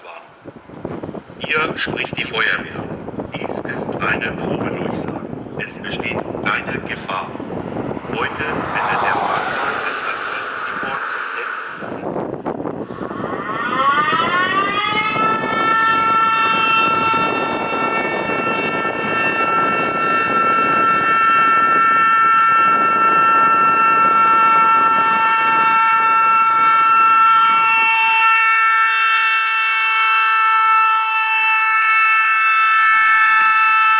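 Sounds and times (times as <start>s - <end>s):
warning siren: 0.9s - 33.9s.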